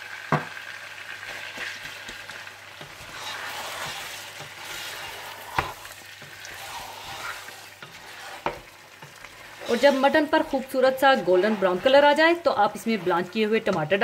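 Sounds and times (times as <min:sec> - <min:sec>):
meat sizzling in ghee: 0:00.0 - 0:14.0.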